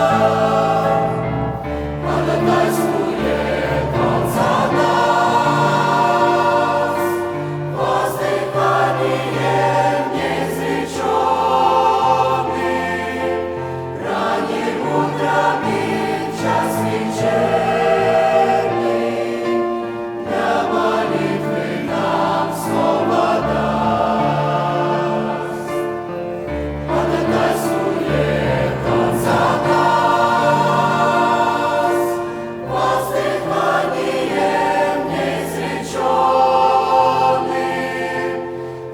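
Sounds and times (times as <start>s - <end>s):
church choir singing a hymn: 0.0s - 38.9s.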